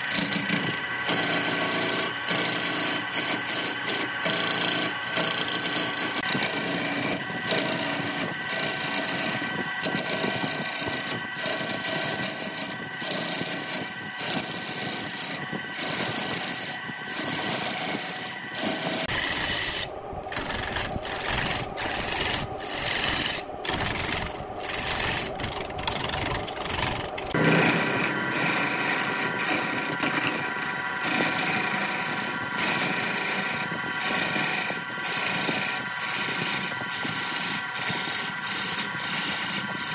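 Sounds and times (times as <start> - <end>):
lathe gouge scraping wood: 0.0 - 39.9
lathe motor whine: 0.0 - 39.9.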